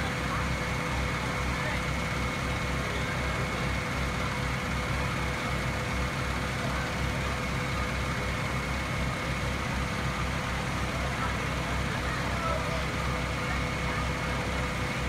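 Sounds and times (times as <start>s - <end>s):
fire truck diesel engine rumbling: 0.0s - 15.0s.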